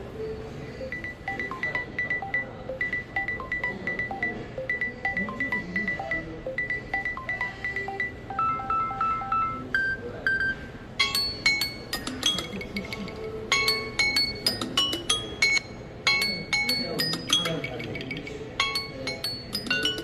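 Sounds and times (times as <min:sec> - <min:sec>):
electronic ringtone melody: 0:00.0 - 0:20.0.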